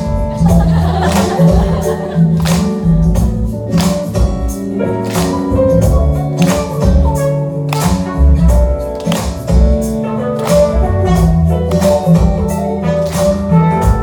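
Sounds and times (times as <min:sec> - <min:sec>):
drum beat with cymbals: 0:00.0 - 0:04.8, 0:05.6 - 0:14.0
bass line: 0:00.0 - 0:14.0
held keyboard chords: 0:00.0 - 0:14.0.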